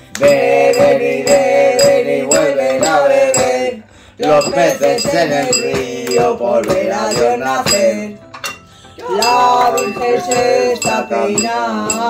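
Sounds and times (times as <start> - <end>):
music with a regular beat: 0.0 - 8.3, 9.0 - 12.0
dishes and cutlery clinking: 0.2 - 3.6, 4.2 - 12.0.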